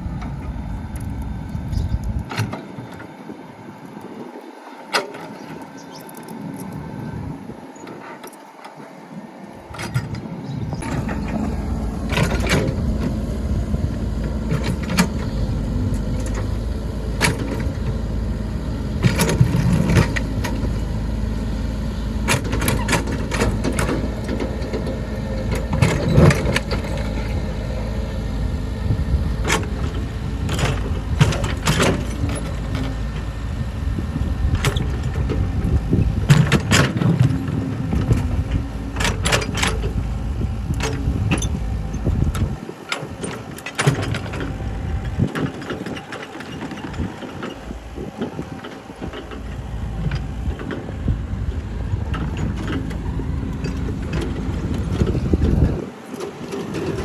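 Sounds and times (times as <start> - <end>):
excavator engine running hard: 0.0 - 57.0.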